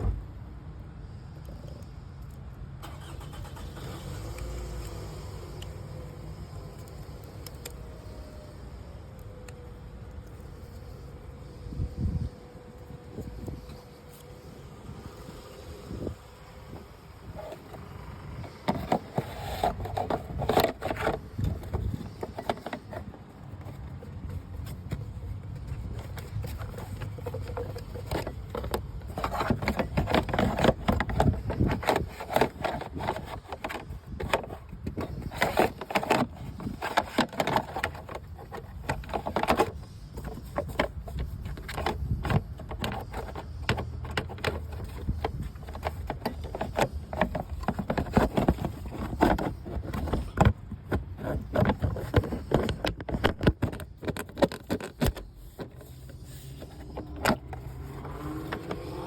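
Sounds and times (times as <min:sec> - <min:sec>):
hard objects clicking and scraping: 0:09.2 - 0:59.0.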